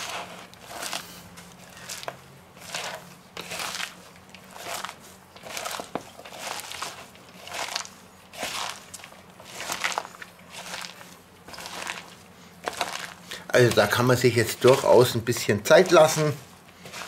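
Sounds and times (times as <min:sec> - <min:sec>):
cabbage crunching rustle: 0:00.0 - 0:17.0.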